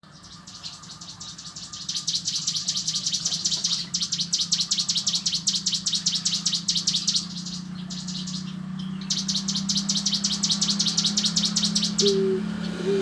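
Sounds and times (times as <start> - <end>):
songbird trilling: 0.0 - 13.0
steady low hum: 0.4 - 13.0.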